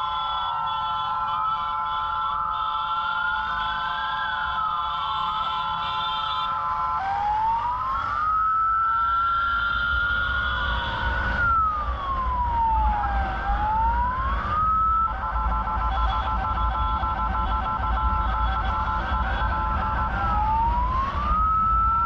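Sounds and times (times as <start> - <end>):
emergency vehicle siren: 0.0 - 22.0
engine and road rumble: 0.0 - 22.0.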